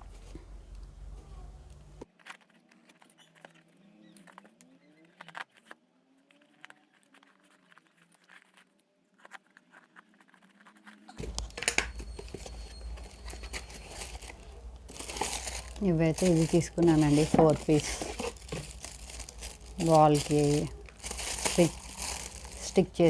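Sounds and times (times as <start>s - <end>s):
faint rustles and clicks: 0.0s - 23.0s
plastic packaging crinkling: 2.0s - 23.0s.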